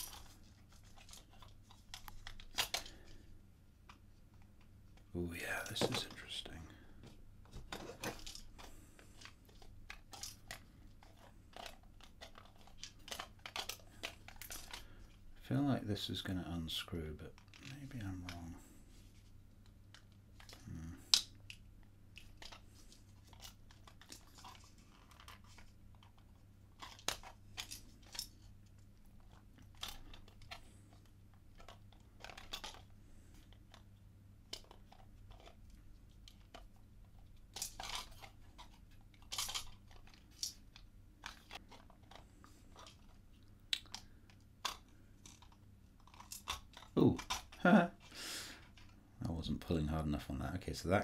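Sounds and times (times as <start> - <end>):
plastic puzzle box rattling: 0.0 - 4.2, 4.9 - 18.6, 19.9 - 49.0.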